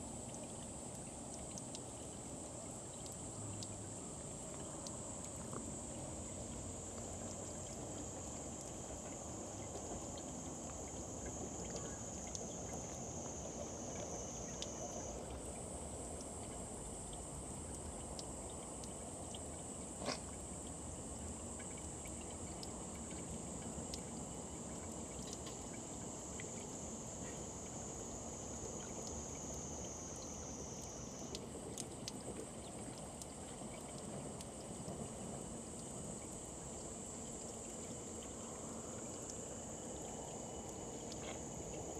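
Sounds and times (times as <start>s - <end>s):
high insect drone: 0.0s - 41.9s
tap water trickling into basin: 0.0s - 41.9s.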